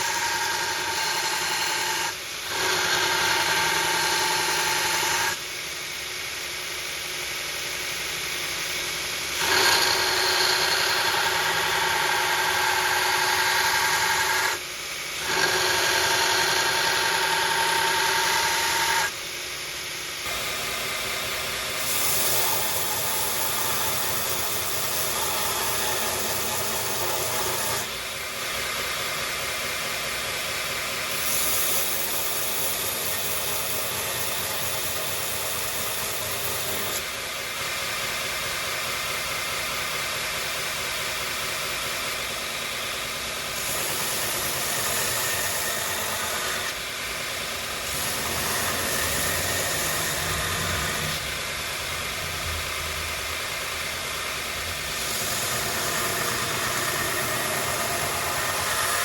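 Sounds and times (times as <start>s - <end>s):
machine humming and hissing: 0.0s - 59.0s.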